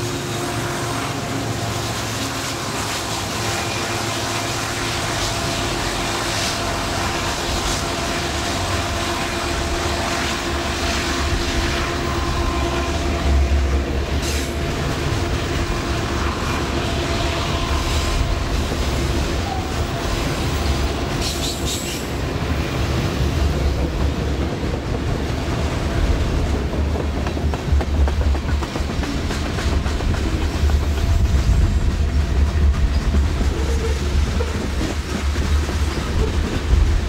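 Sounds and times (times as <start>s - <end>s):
freight train rumbling on track: 0.0s - 37.0s.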